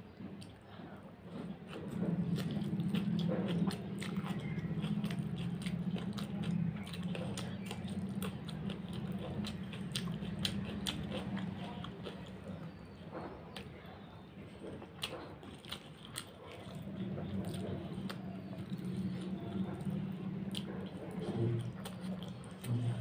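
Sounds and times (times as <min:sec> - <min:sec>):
person chewing with wet smacks: 0:00.2 - 0:23.0.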